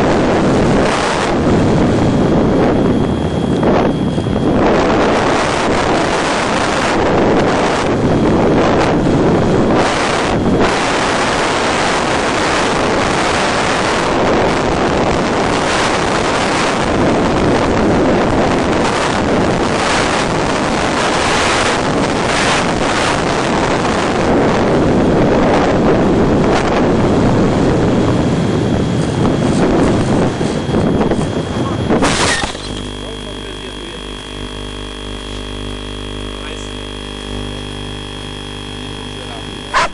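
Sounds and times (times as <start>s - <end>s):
wind rush over microphone: 0.0s - 39.9s.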